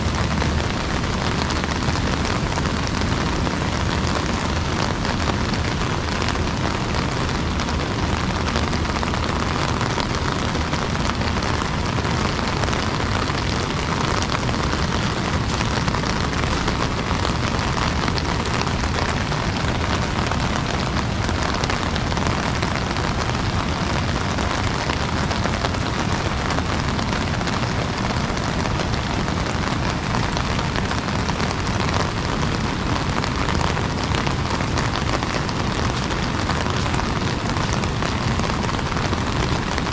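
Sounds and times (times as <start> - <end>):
rain falling on an umbrella: 0.0 - 39.9.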